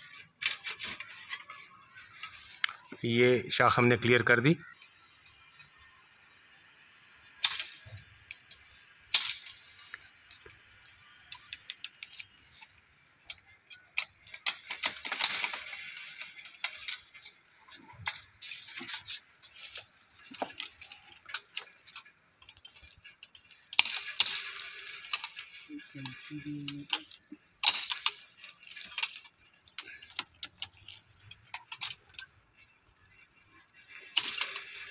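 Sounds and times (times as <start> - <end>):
leaves and twigs rustling: 0.0 - 5.9, 7.4 - 34.9.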